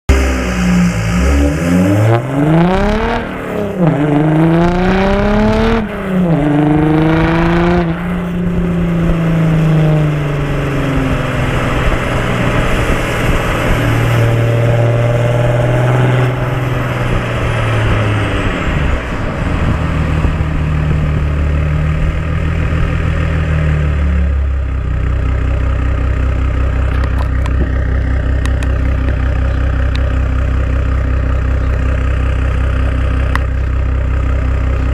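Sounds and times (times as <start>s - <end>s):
diesel engine revving and idling: 0.1s - 34.9s.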